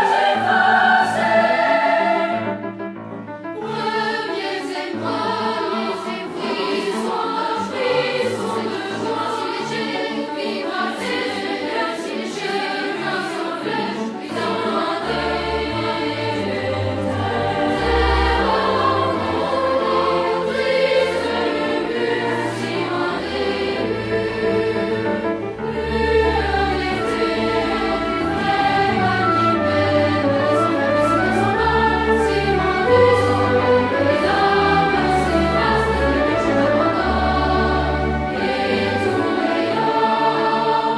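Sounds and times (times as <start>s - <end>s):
choir singing: 0.0s - 2.8s, 3.6s - 40.9s
background music: 0.0s - 40.9s.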